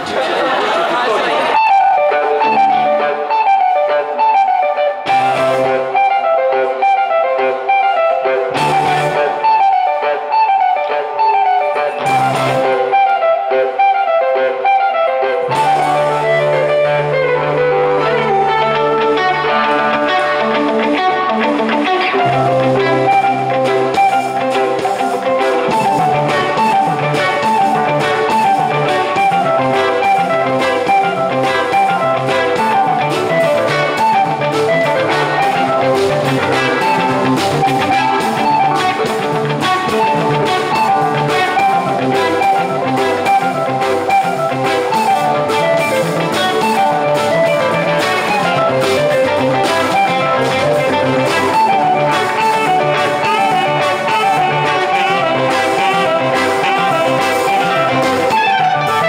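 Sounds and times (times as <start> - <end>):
electric guitar: 0.0 - 59.0
drum kit: 1.5 - 14.0, 15.4 - 59.0
saxophone: 1.6 - 59.0.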